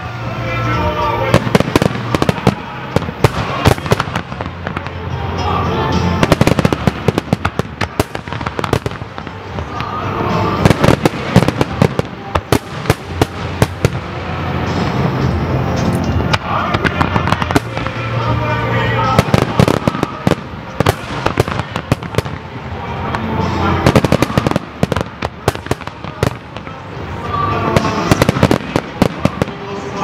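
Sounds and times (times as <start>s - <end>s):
fireworks bursting and crackling: 0.0s - 30.0s.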